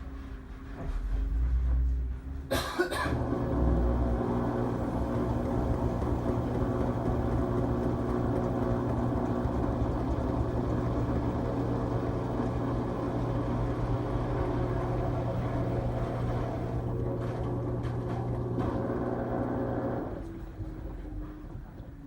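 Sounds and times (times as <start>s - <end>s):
washing machine motor hum: 1.5s - 22.0s.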